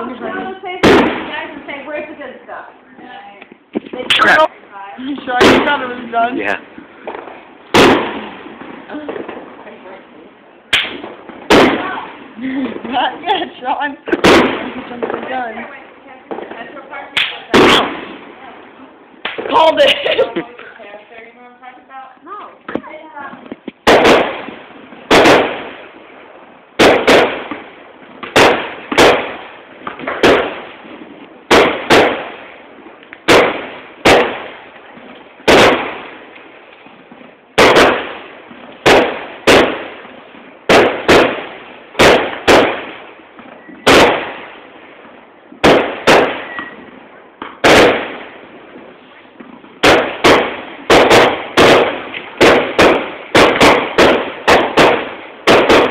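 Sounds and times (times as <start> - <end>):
fireworks bursting with bangs: 0.0 - 55.9.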